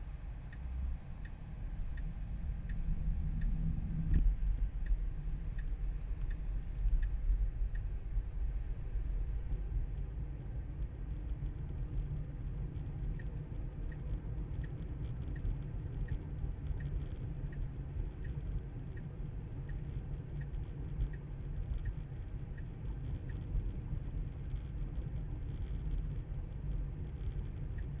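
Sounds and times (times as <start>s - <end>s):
road and tyre rumble in car: 0.0s - 28.0s
turn signal ticking: 0.5s - 7.9s, 11.4s - 28.0s.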